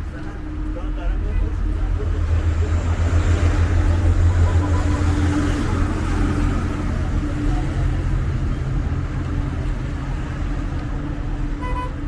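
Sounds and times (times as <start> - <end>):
faint engine hum: 0.0 - 12.0
traffic engines rumbling: 0.0 - 12.0.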